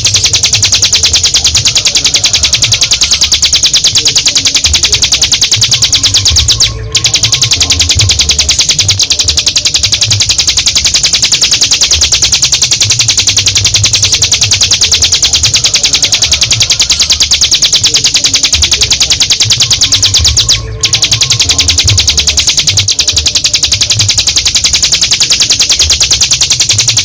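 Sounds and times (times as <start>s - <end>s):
bird singing rattling trill: 0.0s - 27.0s.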